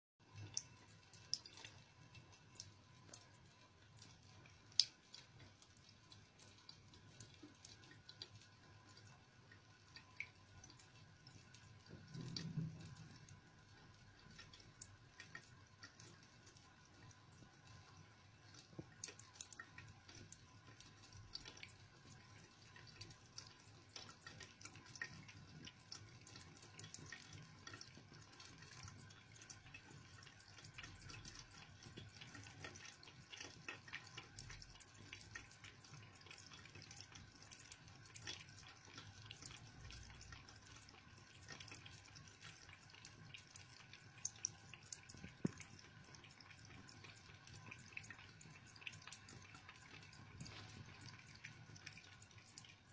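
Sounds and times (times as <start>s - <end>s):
cat lapping water: 0.2s - 52.9s
tap water trickling: 0.2s - 52.9s.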